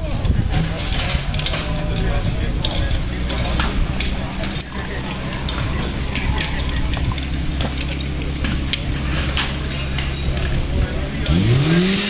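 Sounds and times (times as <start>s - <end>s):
metallic clinks of hose couplings: 0.1s - 10.6s.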